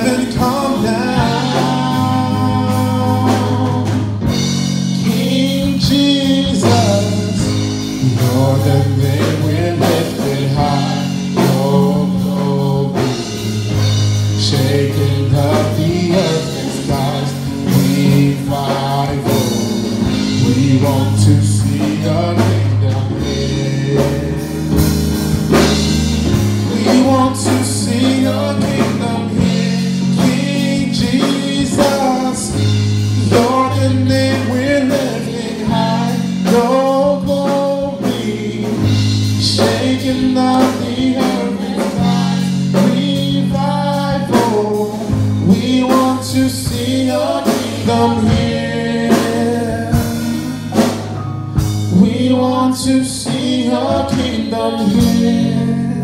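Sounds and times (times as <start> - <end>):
bass and keyboard chords: 0.0 - 56.0
drums: 0.0 - 56.0
vocal group singing gospel: 0.0 - 56.0.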